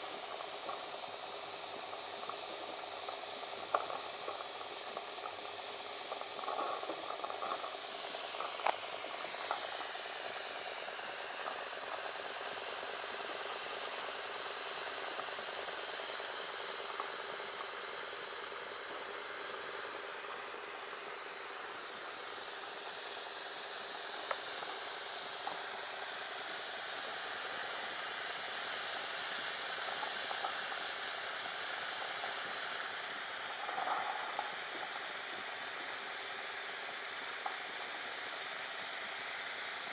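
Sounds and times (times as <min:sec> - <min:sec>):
steam engine hissing: 0:00.0 - 0:39.9.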